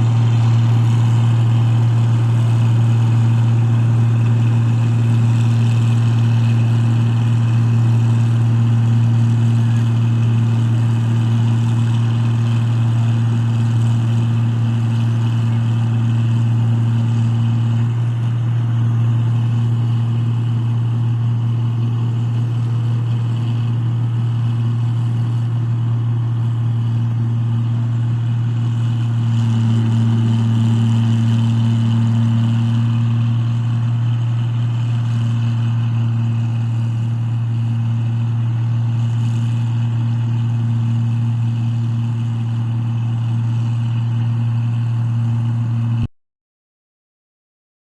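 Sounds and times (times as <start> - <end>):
harvester diesel engine humming: 0.0 - 46.1.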